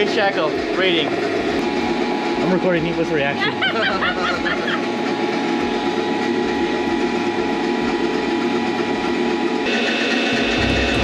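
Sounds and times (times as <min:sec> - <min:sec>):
hydraulic pump drone: 0:00.0 - 0:11.0.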